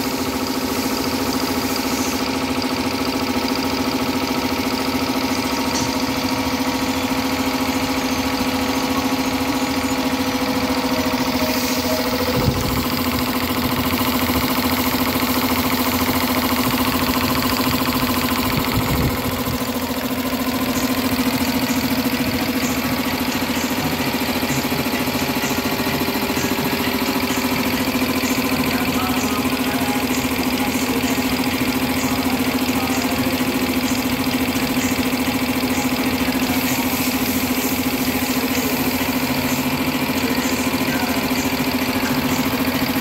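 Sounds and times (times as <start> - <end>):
air compressor running: 0.0 - 43.0.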